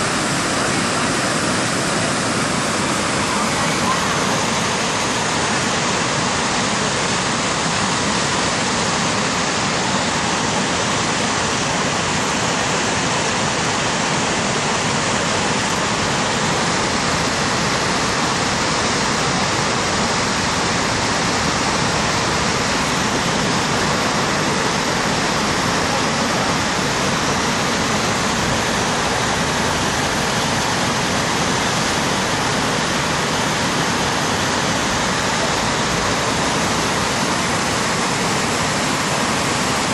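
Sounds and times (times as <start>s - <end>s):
whitewater river roaring: 0.0s - 39.9s.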